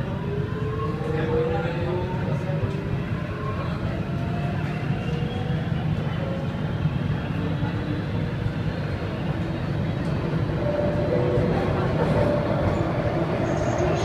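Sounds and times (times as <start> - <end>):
metro train rumble: 0.0 - 14.0.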